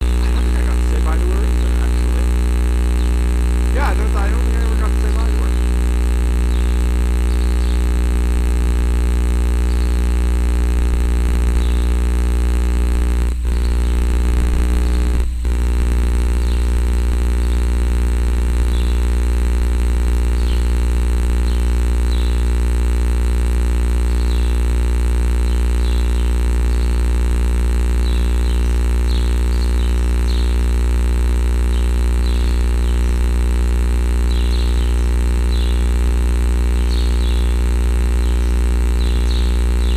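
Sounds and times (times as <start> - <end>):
loud steady low hum: 0.0 - 39.9.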